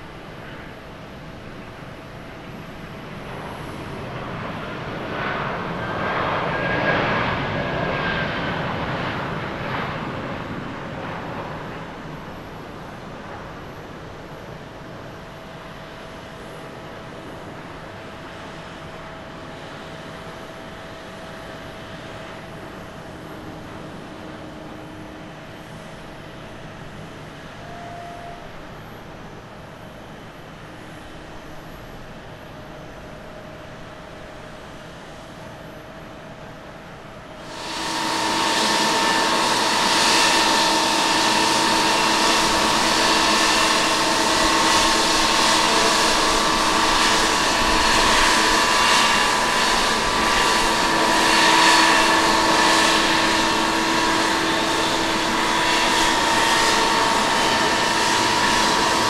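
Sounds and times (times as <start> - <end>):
faint engine whine: 0.0 - 59.0
jet engines roaring: 0.0 - 59.0.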